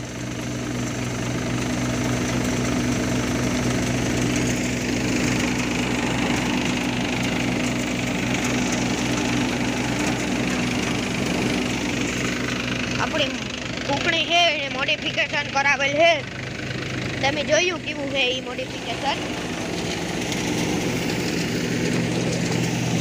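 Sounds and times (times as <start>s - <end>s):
low engine hum: 0.0s - 23.0s
threshing machine whirring: 0.0s - 23.0s.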